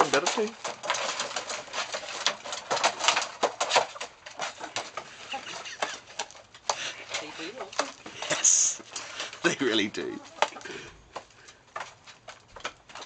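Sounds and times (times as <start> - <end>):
hens clucking: 0.0 - 13.0
hens pecking and scratching: 0.0 - 13.0.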